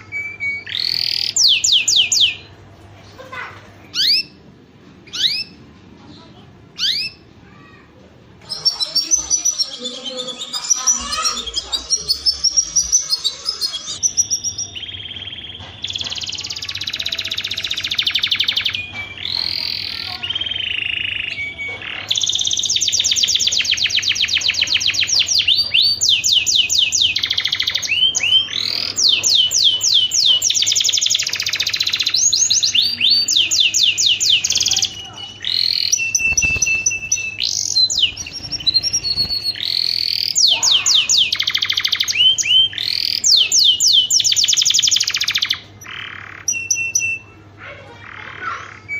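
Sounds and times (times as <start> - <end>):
canary singing trills: 0.0 - 7.6, 8.4 - 48.9.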